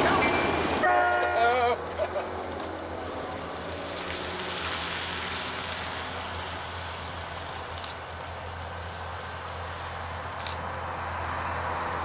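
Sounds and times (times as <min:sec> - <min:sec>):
locomotive engine drone: 0:00.0 - 0:12.0.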